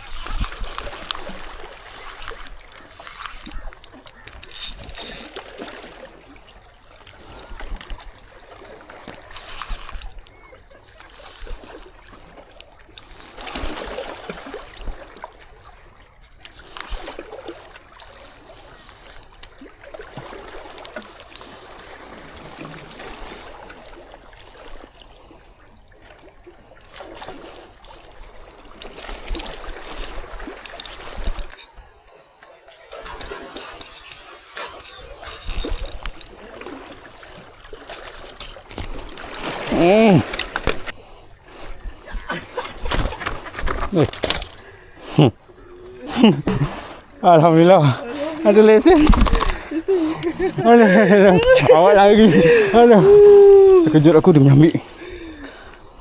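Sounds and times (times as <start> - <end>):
water sloshing in waves: 0.0 - 56.0.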